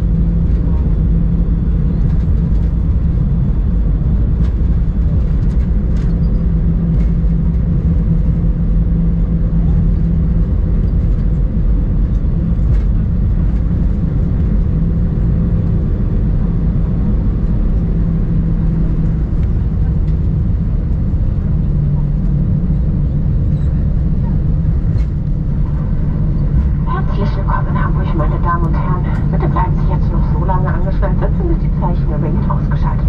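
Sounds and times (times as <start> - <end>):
airplane cabin engine rumble: 0.0 - 33.0.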